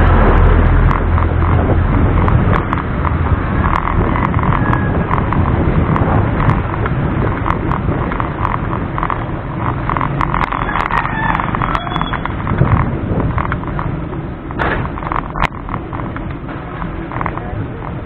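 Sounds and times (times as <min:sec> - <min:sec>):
road rumble: 0:00.0 - 0:18.0
wind noise: 0:00.0 - 0:18.0
small rattling clicks: 0:02.2 - 0:18.0.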